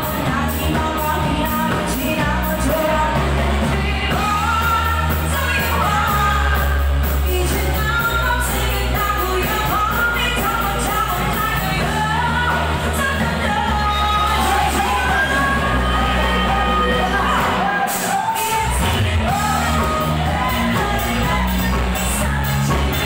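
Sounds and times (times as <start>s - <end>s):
cymbals keeping a beat: 0.0s - 23.0s
live pop band: 0.0s - 23.0s
person singing: 0.0s - 23.0s.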